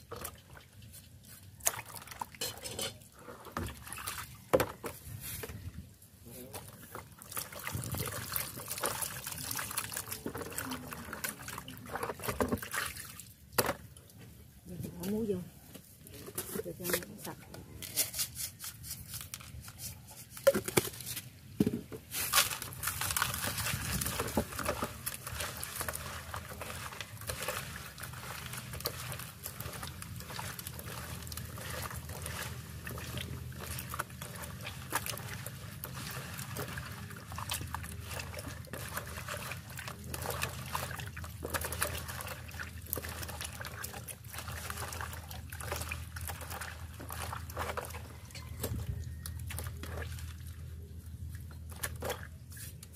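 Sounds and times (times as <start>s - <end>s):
water sloshing and trickling: 0.0s - 52.9s.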